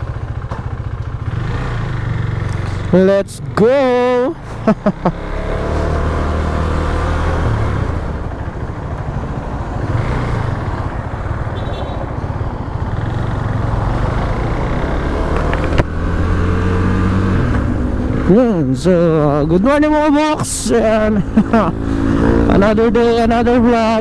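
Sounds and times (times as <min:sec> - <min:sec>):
motorcycle engine hum: 0:00.0 - 0:24.0.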